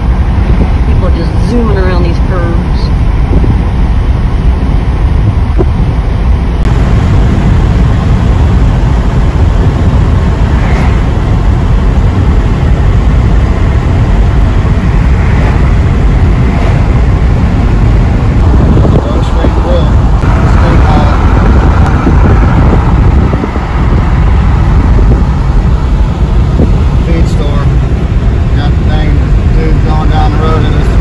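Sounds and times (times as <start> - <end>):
car interior driving rumble: 0.0 - 31.0.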